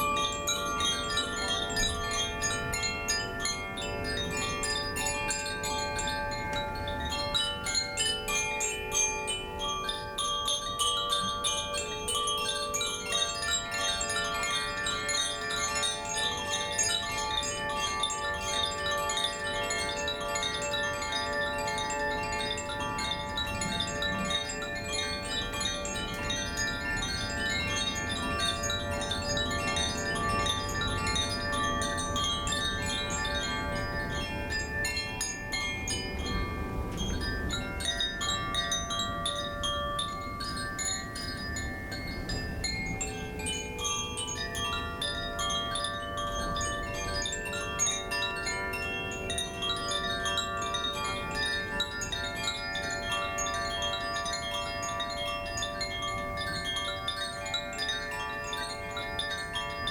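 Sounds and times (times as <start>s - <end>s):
wind chimes ringing: 0.0s - 59.9s.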